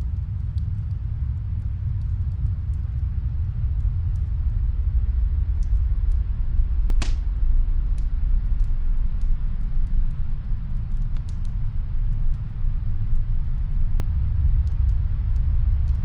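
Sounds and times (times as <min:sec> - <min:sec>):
snowstorm wind rumbling: 0:00.0 - 0:16.0
wood fire crackling: 0:00.0 - 0:16.0.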